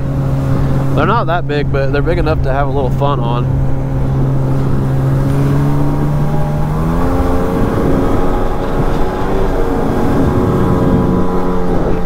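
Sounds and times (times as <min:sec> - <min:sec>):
personal watercraft engine revving: 0:00.0 - 0:12.0
rushing water: 0:00.0 - 0:12.0.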